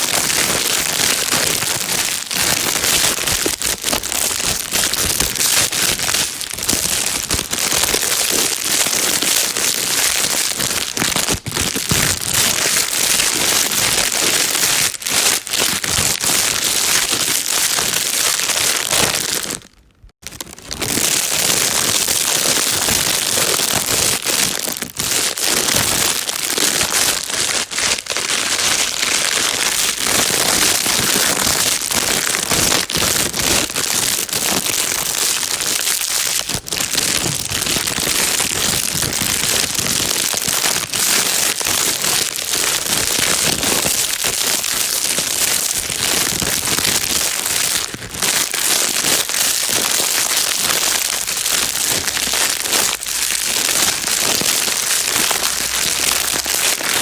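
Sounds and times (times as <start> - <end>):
plastic bag crinkling: 0.0 - 57.0.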